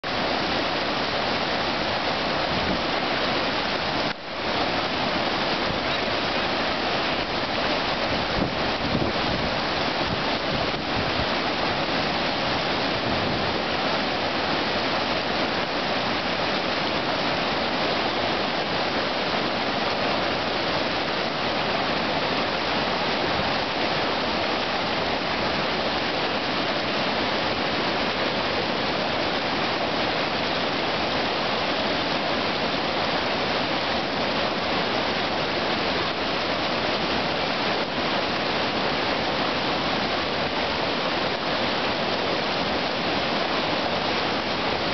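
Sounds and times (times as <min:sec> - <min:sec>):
whitewater rapid rushing: 0:00.0 - 0:44.9.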